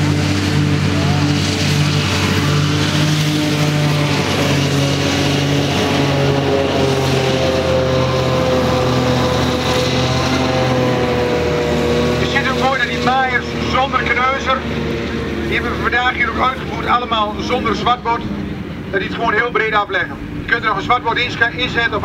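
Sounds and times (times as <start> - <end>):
tractor engine and mower drone: 0.0 - 22.0.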